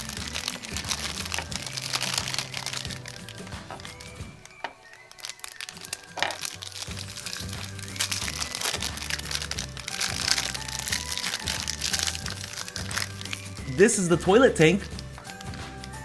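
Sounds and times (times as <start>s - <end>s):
background music with bass line: 0.0s - 4.5s, 6.2s - 16.0s
plastic bag crinkling: 0.0s - 16.0s.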